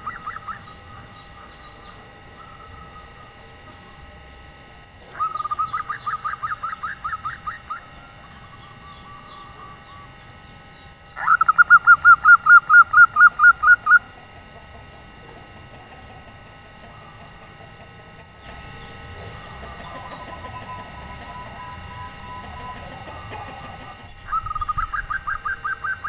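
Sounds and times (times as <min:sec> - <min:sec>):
dove cooing: 0:00.0 - 0:04.3, 0:05.0 - 0:10.3, 0:11.2 - 0:26.0.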